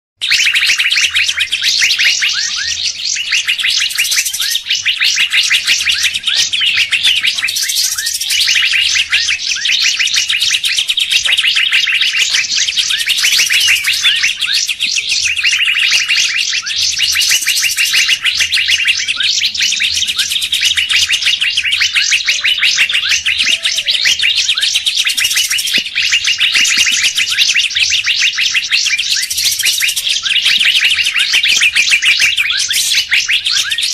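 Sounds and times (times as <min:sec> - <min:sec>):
songbirds chirping and trilling: 0:00.2 - 0:33.9.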